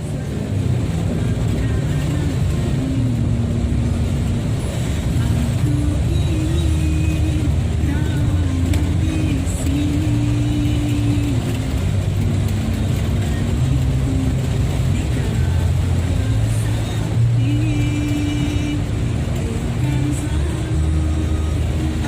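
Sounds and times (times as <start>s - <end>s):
heavy rain: 0.0s - 22.0s
vehicle engines humming: 0.0s - 22.0s.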